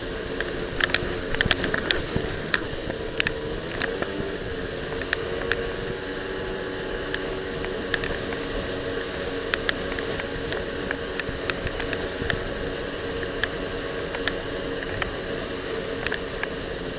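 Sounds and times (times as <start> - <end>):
jet ski engine running: 0.0 - 16.9
rushing wind and water: 0.0 - 16.9.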